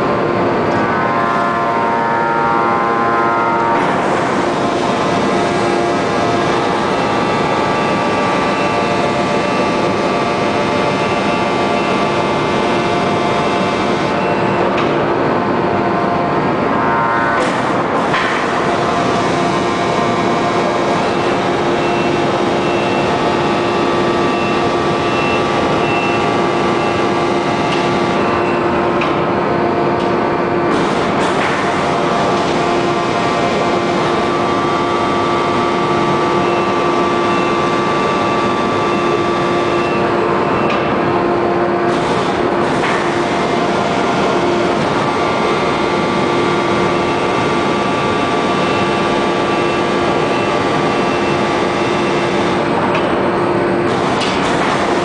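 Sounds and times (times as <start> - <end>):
hydraulic press machine hum: 0.0 - 55.0.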